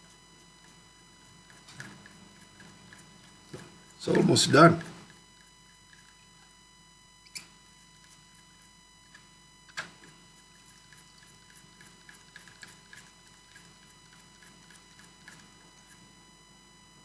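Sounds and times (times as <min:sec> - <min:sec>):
small ticks: 0:00.0 - 0:04.2, 0:04.8 - 0:06.5, 0:07.2 - 0:16.2.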